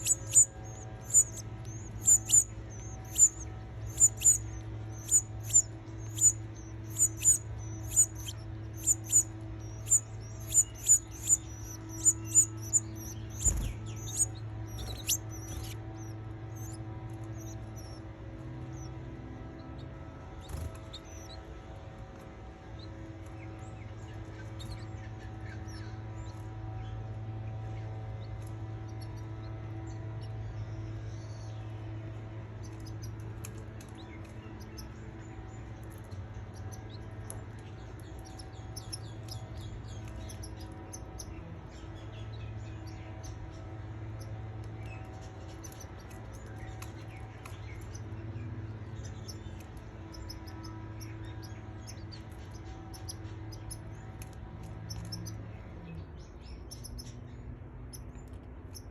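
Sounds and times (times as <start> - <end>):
canaries chirping: 0.0 - 58.9
steady low hum: 0.0 - 58.9.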